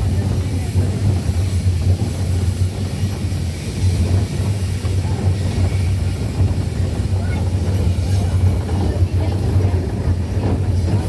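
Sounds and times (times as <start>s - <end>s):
steam locomotive rumbling: 0.0s - 11.0s.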